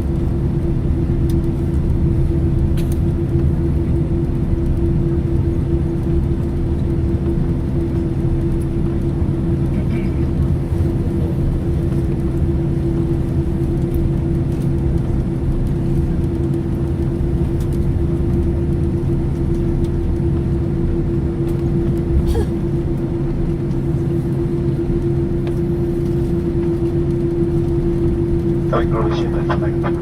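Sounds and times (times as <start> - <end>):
airliner low rumble: 0.0 - 30.0.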